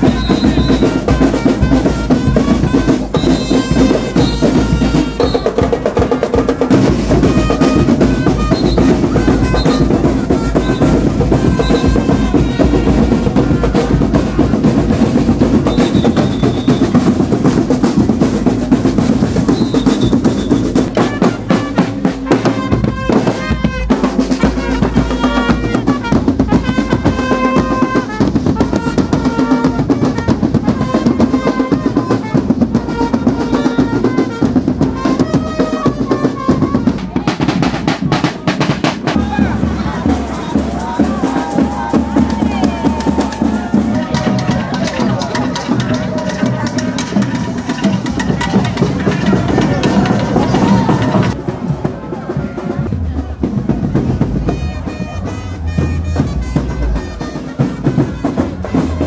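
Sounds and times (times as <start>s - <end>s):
horn notes: 0.0s - 18.2s, 18.8s - 59.0s
bass drum beats: 0.0s - 59.0s
snare drum rolls: 0.0s - 59.0s.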